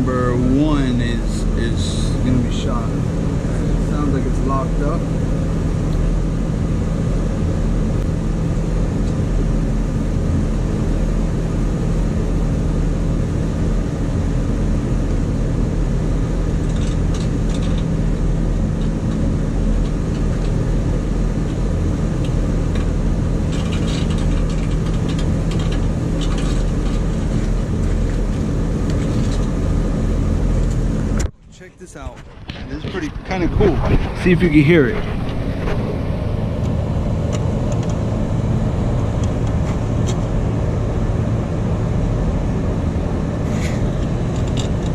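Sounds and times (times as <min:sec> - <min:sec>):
compressor electrical hum: 0:00.0 - 0:44.9.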